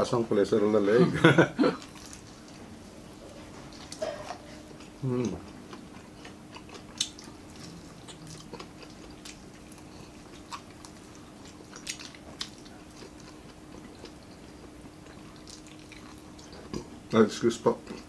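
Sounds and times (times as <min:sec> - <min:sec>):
faint steady hum: 0:00.0 - 0:18.0
people chewing food: 0:01.5 - 0:18.0.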